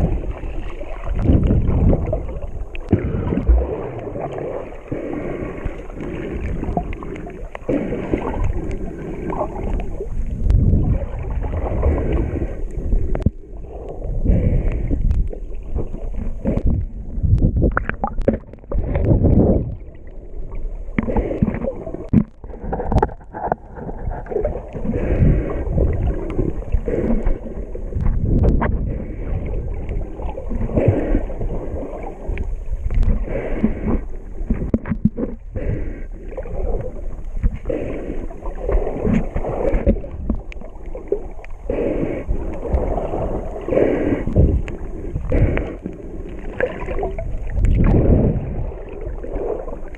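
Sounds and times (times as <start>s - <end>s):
water swishing and gurgling underwater: 0.0s - 49.9s.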